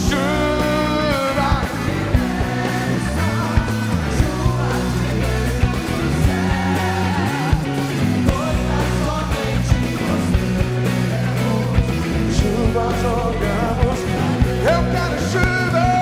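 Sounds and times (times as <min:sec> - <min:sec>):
bass: 0:00.0 - 0:16.0
drums: 0:00.0 - 0:16.0
electric guitar: 0:00.0 - 0:16.0
person singing: 0:00.0 - 0:16.0.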